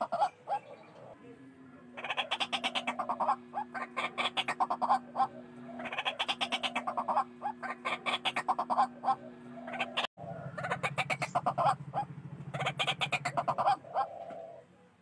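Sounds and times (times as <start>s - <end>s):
waterhen calling harsh notes: 1.9s - 14.3s.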